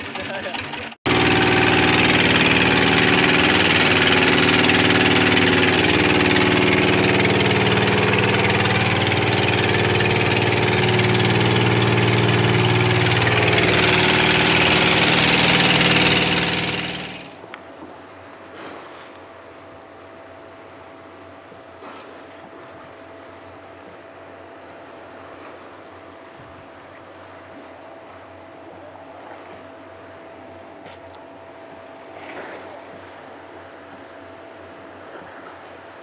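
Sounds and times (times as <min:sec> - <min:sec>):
boat engine running: 0:00.0 - 0:36.0
water: 0:00.0 - 0:36.0.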